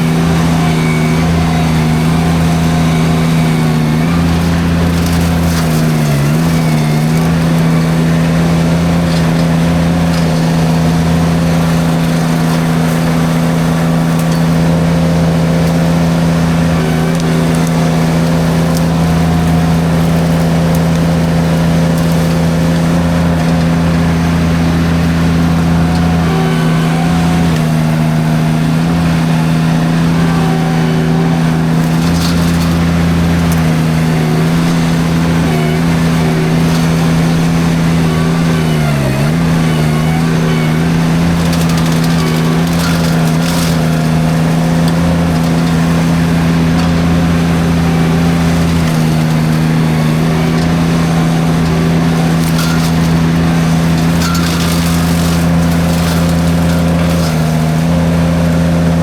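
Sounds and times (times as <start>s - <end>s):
brush crackling in mulcher: 0.0s - 59.0s
skid steer engine at high throttle: 0.0s - 59.0s.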